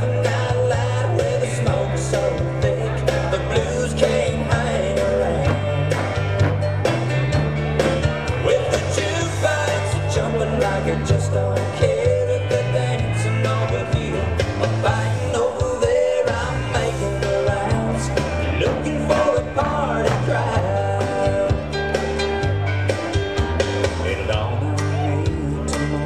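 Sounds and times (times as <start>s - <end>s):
country rock and roll dance music: 0.0s - 26.0s.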